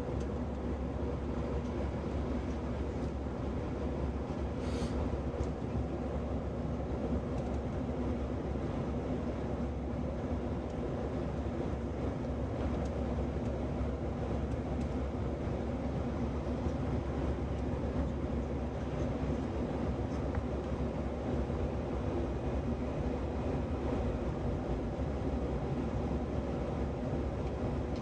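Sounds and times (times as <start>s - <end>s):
jet engine drone in cabin: 0.0s - 28.0s.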